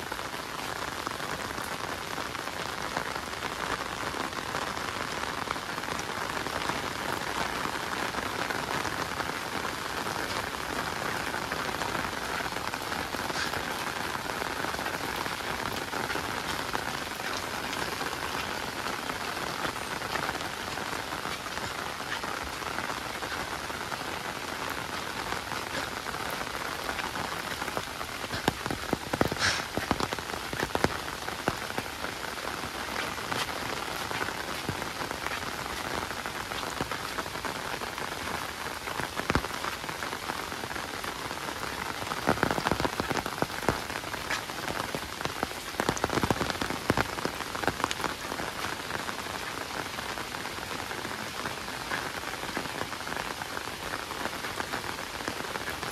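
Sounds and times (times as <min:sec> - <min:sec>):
rain on hard surfaces: 0:00.0 - 0:55.9
sharp raindrop hits: 0:00.0 - 0:55.9.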